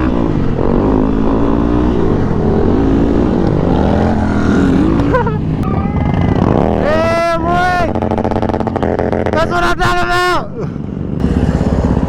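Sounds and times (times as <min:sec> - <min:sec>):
dirt bike engine revving: 0:00.0 - 0:09.8, 0:11.0 - 0:12.0.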